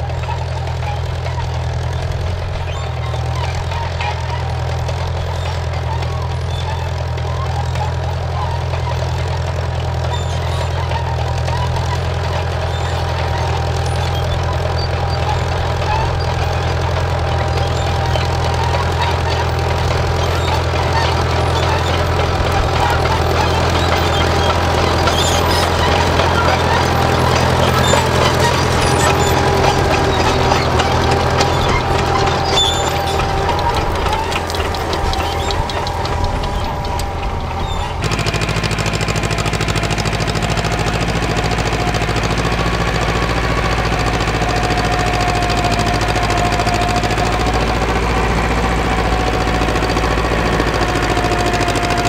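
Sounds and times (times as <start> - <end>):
crawler tractor engine running: 0.0 - 52.0.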